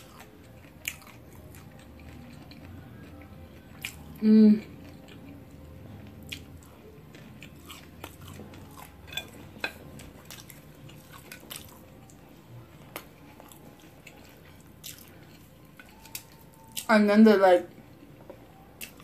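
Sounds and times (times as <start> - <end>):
chewing and biting crunches: 0.0 - 16.9.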